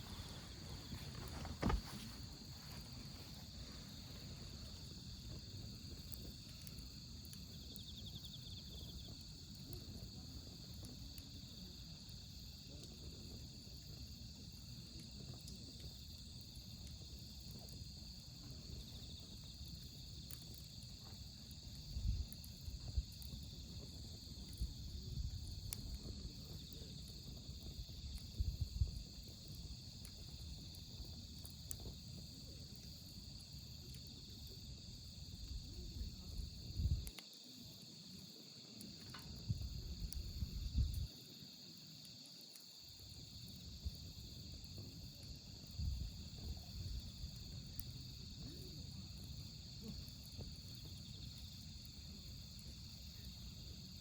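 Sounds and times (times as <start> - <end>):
crickets chirring: 0.0 - 54.0
wood fire crackling: 0.0 - 54.0.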